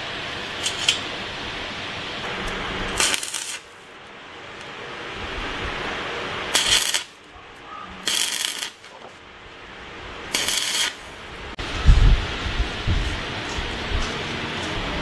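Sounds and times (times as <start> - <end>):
arc welding crackle: 0.0 - 15.0.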